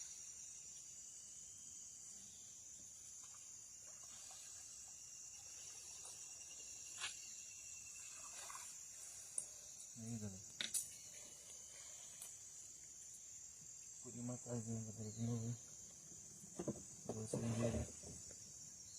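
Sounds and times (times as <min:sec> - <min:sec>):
high-pitched insect drone: 0:00.0 - 0:18.9.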